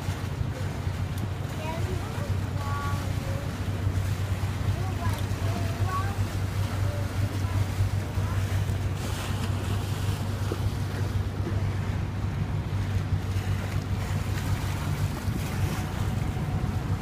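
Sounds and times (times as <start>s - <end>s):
boat engine droning: 0.0s - 17.0s
water wash: 0.0s - 17.0s.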